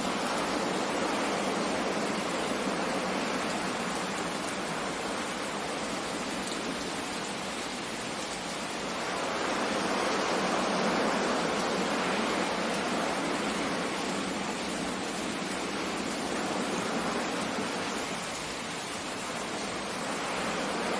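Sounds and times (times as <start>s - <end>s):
rain: 0.0s - 20.9s
sea surf: 0.0s - 20.9s.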